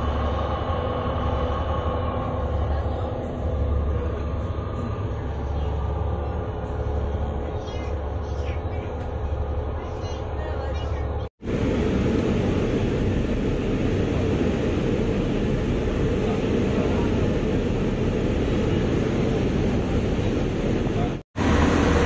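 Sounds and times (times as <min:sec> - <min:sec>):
low ship drone: 0:00.0 - 0:22.0
water rushing along hull: 0:00.0 - 0:22.0.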